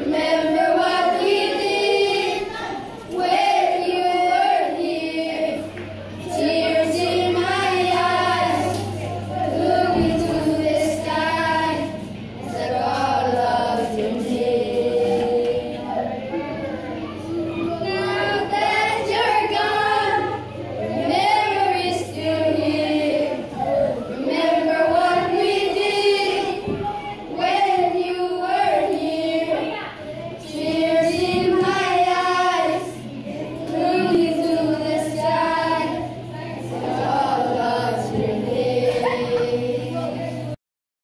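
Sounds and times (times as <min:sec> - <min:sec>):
children singing in unison: 0:00.0 - 0:40.6.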